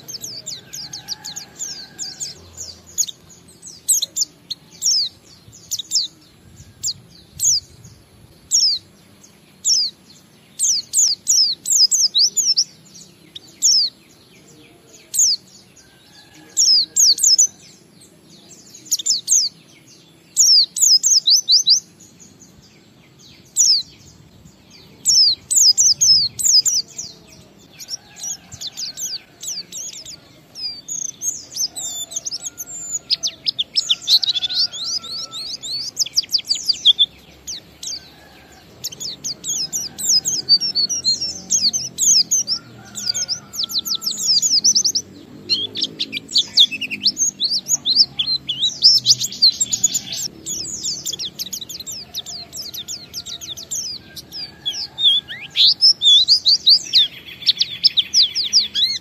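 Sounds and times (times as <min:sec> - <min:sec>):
bird twittering chirps: 0:00.0 - 0:59.0.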